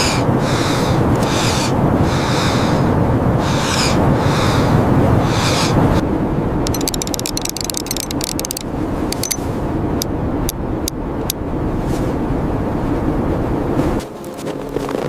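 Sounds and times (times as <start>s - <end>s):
strong blizzard wind: 0.0s - 6.7s, 8.6s - 15.0s.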